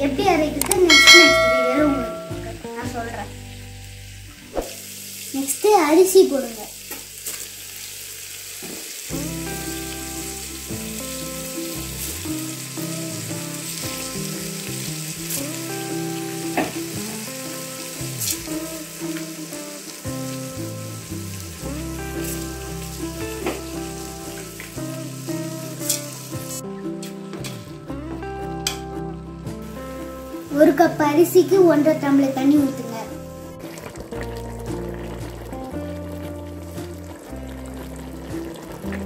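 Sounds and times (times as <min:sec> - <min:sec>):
background music with sustained notes: 0:00.0 - 0:05.4, 0:09.1 - 0:39.0
food sizzling in a pot: 0:00.8 - 0:39.0.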